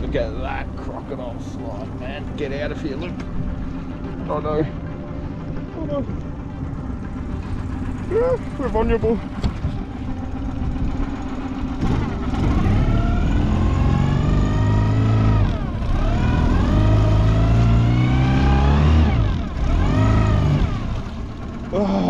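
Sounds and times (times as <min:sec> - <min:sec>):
outboard motor revving: 0:00.0 - 0:22.0.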